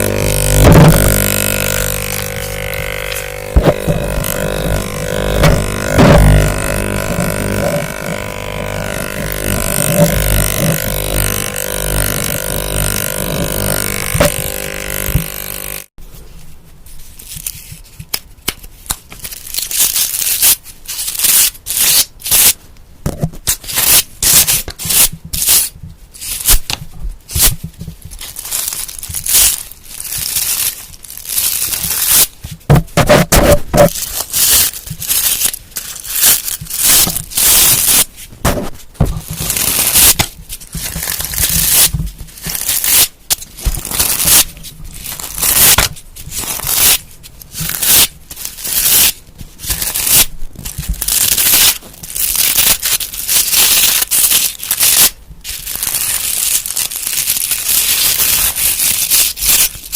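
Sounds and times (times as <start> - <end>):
objects crackling and crinkling: 0.0 - 59.9.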